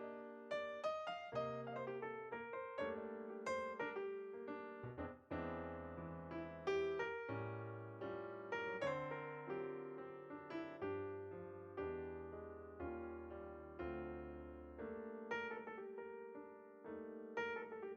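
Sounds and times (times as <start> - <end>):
gentle piano melody: 0.0 - 17.9.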